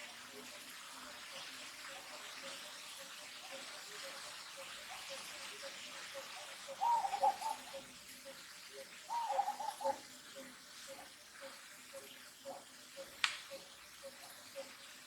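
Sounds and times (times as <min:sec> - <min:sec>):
faint rhythmic pulse: 0:00.0 - 0:15.0.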